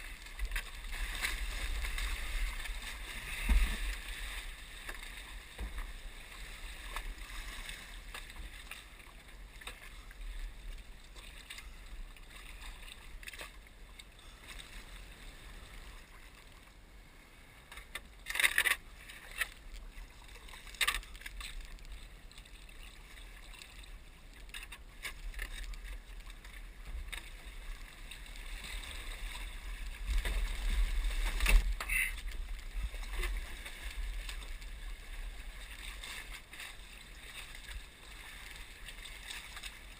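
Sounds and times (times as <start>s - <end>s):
paddle splashes: 0.0s - 16.6s, 17.6s - 39.9s
water lapping: 0.0s - 39.9s.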